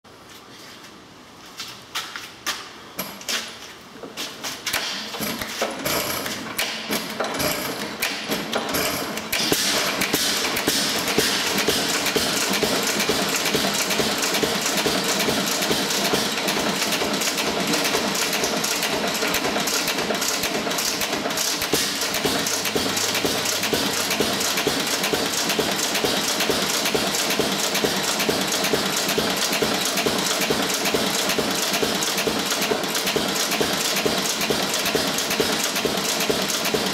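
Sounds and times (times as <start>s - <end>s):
stationary engine firing: 5.8s - 36.9s.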